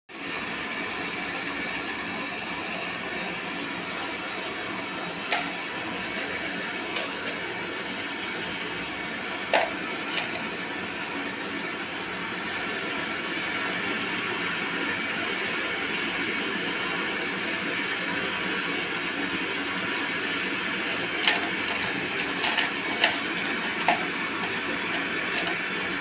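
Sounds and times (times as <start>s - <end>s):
mechanical running noise: 0.5s - 26.0s.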